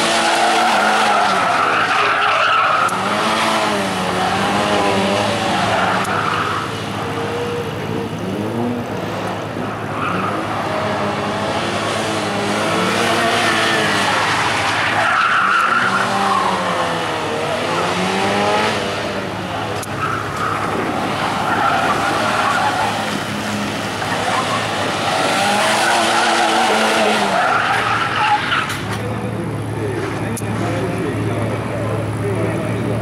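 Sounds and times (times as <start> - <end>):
car engine revving: 0.0 - 33.0
tyres skidding: 0.0 - 33.0.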